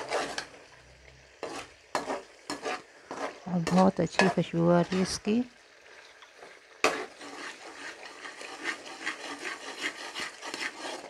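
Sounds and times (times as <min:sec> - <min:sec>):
spoon scraping and stirring pot: 0:00.0 - 0:00.8, 0:01.4 - 0:05.3, 0:06.2 - 0:11.0.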